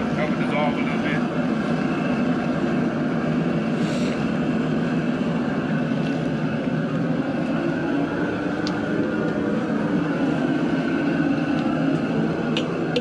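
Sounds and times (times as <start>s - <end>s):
propane burner flame roaring: 0.0s - 13.0s.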